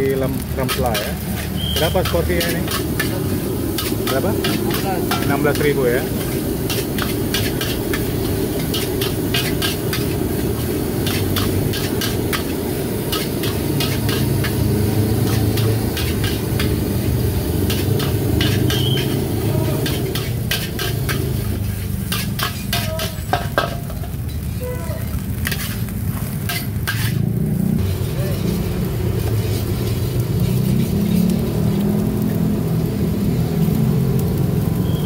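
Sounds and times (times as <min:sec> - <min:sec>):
food sizzling: 0:00.0 - 0:35.0
metal spatula scraping a wok: 0:00.4 - 0:32.3.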